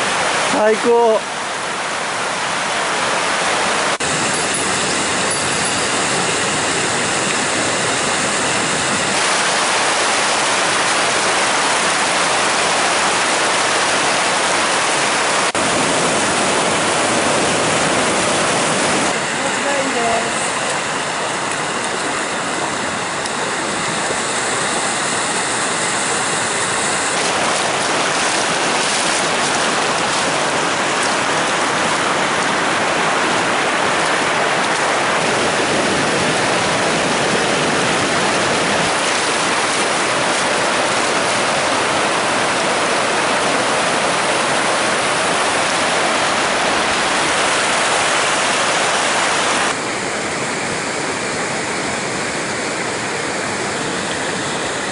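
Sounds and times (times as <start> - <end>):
stream water rushing over rock: 0.0 - 54.9.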